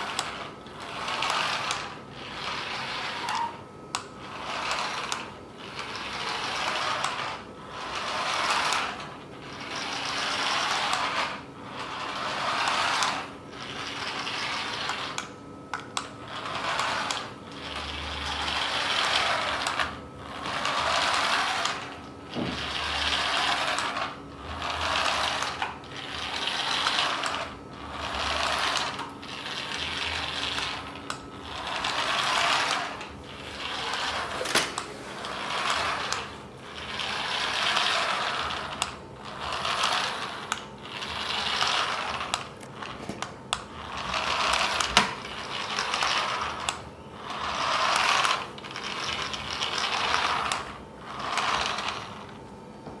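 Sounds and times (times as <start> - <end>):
toy car motor and gears whirring: 0.0 - 52.5.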